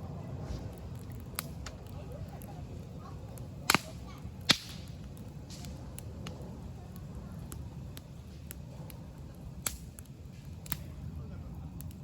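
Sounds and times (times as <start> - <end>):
campfire crackling and popping: 0.0 - 12.0
low steady rumble: 0.0 - 12.0.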